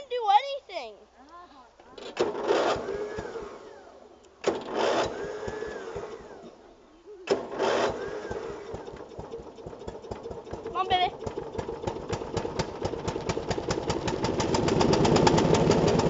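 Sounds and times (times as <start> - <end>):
lawn tractor engine cranking: 2.0 - 16.0.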